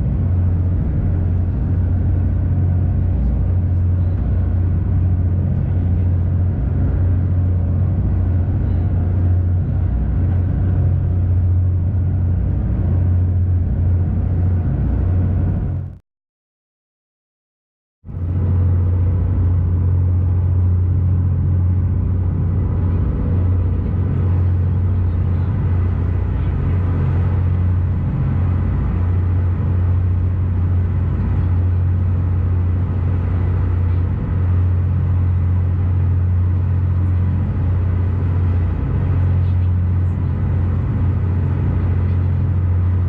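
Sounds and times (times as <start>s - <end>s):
ferry engine droning: 0.0s - 16.0s, 18.1s - 43.0s.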